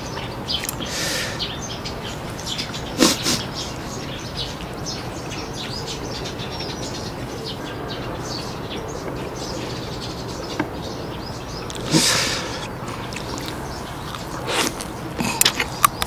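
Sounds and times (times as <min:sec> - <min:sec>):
small birds chirping: 0:00.0 - 0:16.0
steady low background noise: 0:00.0 - 0:16.0.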